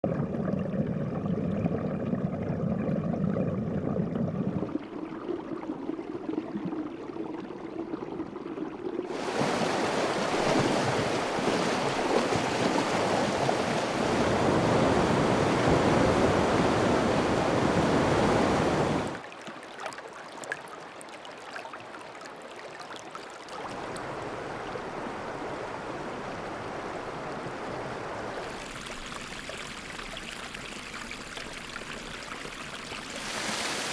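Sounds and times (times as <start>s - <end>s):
running water in streams: 4.4s - 33.9s.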